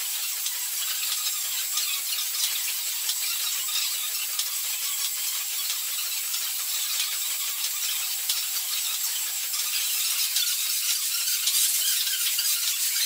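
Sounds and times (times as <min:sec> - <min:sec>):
steam engine hissing: 0:00.0 - 0:13.0.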